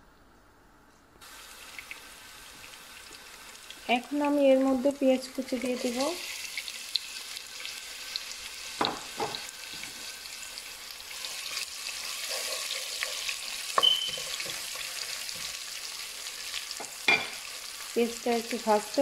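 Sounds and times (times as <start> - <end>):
onions sizzling in oil: 1.2 - 19.0.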